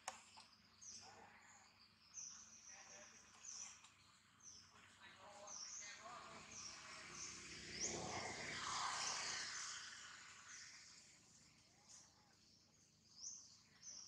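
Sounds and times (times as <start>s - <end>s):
outdoor ambience: 0.0s - 14.0s
small birds chirping: 0.0s - 14.0s.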